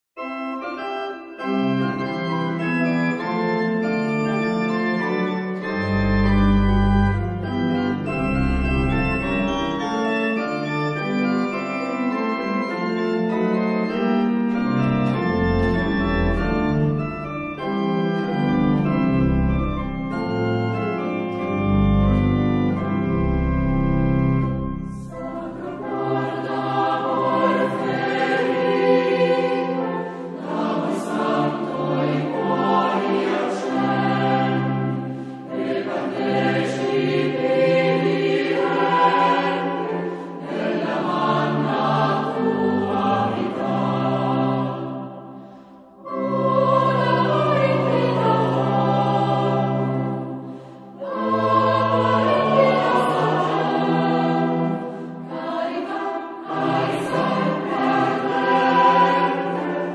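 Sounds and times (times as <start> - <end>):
organ playing held chords: 0.2 - 59.9
choir singing: 0.6 - 59.9.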